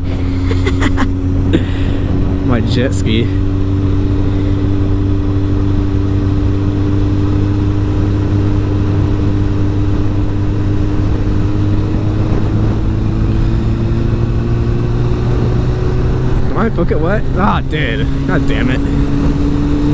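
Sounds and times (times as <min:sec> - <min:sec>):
motorcycle engine cruising: 0:00.0 - 0:19.9
wind noise: 0:00.0 - 0:19.9.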